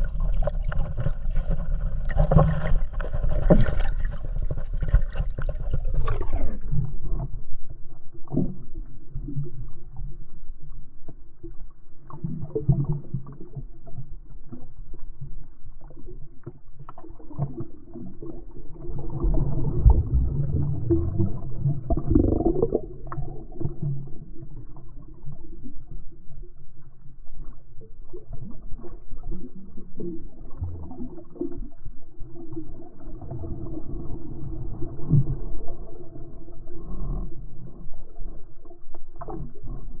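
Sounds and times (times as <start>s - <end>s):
low underwater rumble: 0.0s - 40.0s
muffled underwater water movement: 0.0s - 40.0s.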